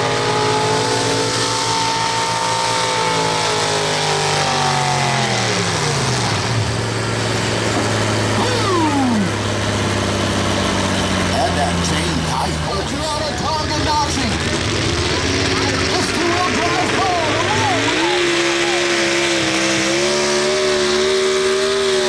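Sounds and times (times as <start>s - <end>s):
truck engine at high revs: 0.0s - 22.0s.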